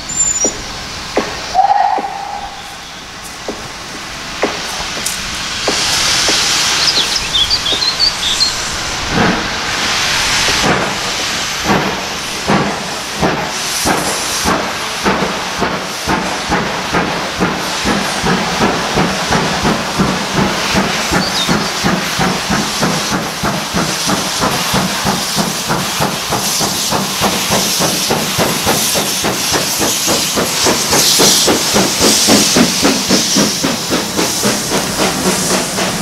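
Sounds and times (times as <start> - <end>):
loud steam hiss: 0.0 - 36.0
steam locomotive exhaust chuffs: 0.0 - 36.0.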